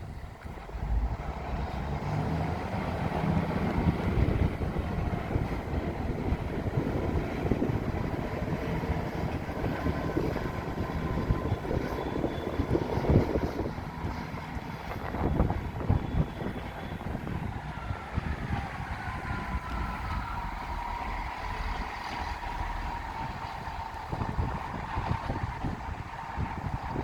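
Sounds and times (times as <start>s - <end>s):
diesel train engines rumbling: 0.0s - 27.0s.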